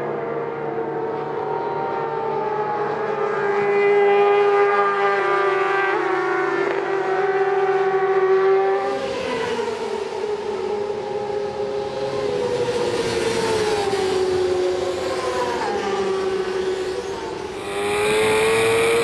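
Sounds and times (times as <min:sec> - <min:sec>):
motorcycle engine at high revs: 0:03.6 - 0:19.0.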